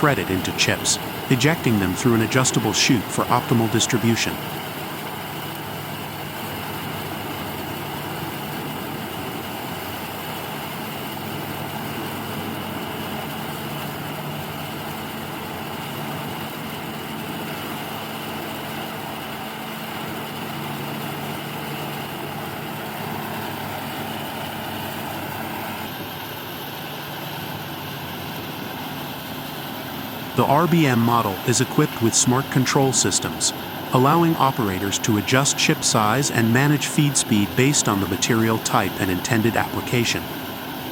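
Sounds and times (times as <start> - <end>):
wood chipper engine drone: 0.0 - 40.9.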